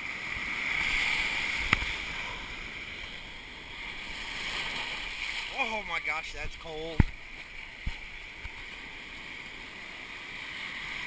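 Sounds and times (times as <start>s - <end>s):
ocean surf washing in: 0.0s - 11.0s.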